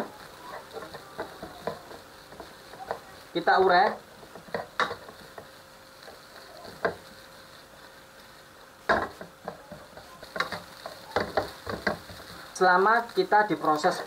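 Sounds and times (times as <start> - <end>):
spatula scraping frying pan: 0.0 - 13.2
faint sizzle: 0.0 - 14.0.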